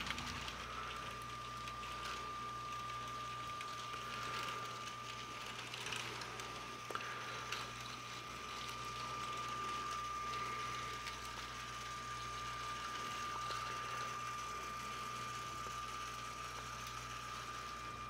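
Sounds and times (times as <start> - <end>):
toy train motor whining: 0.0 - 18.0.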